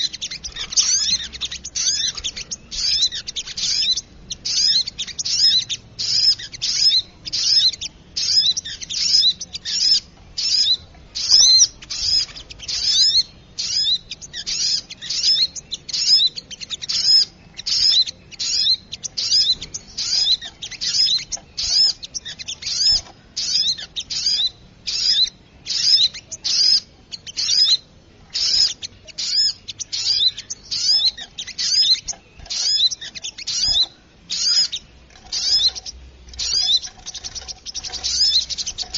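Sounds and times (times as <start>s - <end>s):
small birds chattering calls: 0.0s - 38.9s.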